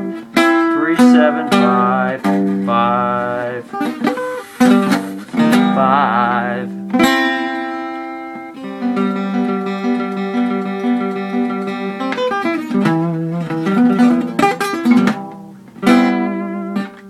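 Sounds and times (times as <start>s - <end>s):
fingerpicked acoustic guitar: 0.0s - 17.0s.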